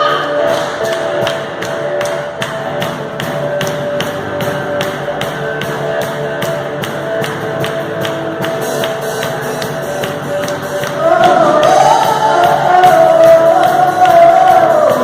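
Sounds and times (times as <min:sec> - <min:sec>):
guitar: 0:00.0 - 0:15.0
live band instrumental music: 0:00.0 - 0:15.0
steady ticking beat: 0:00.0 - 0:15.0.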